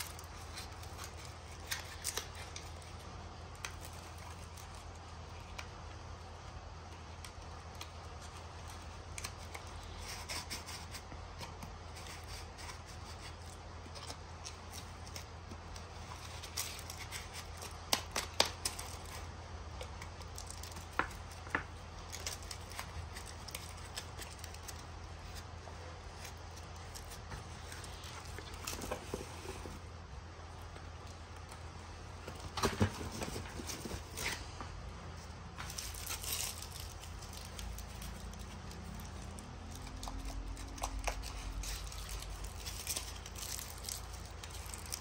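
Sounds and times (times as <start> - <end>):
low steady hum: 0.0 - 45.0
paper crinkling and rustling: 0.0 - 45.0.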